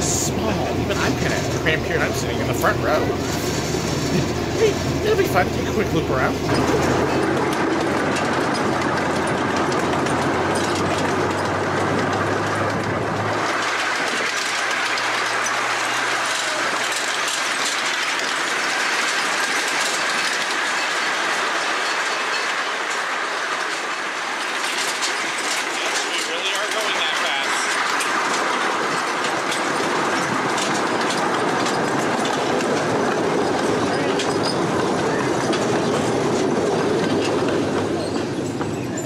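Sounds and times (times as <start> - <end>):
small train cars rolling and rattling: 0.0 - 39.0.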